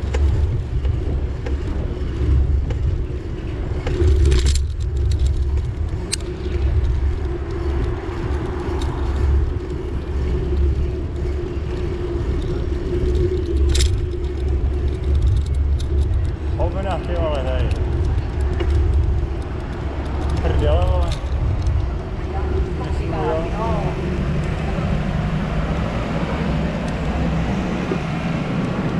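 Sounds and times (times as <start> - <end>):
vehicle rumble: 0.0 - 28.9.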